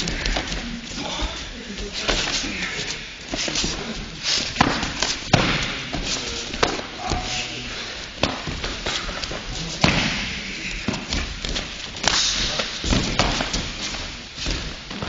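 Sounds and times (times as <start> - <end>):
feet stepping on mats: 0.0 - 15.0.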